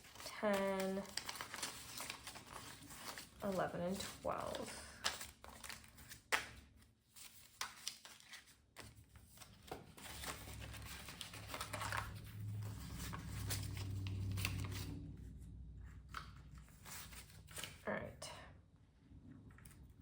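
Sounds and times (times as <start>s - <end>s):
paper rustling and crinkling: 0.0s - 15.1s, 15.8s - 17.8s.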